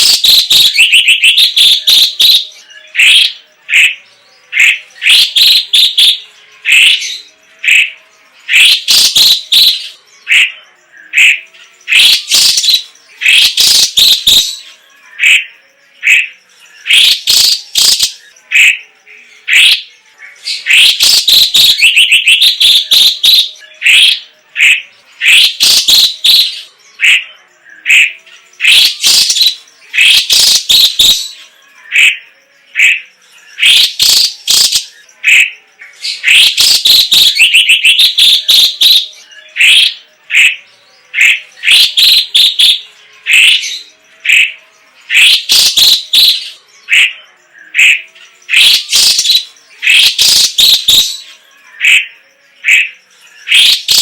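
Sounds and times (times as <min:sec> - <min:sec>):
bird chirping and whistling: 0:00.0 - 0:54.0.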